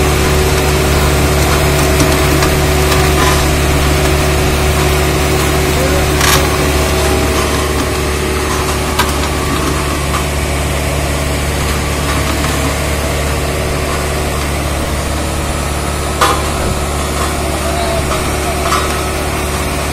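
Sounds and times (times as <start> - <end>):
roller diesel engine running: 0.0 - 19.9.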